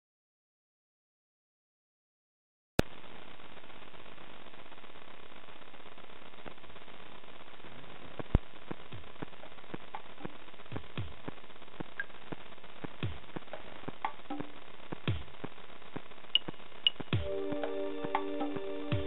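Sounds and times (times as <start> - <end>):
steady hiss: 2.8 - 19.0.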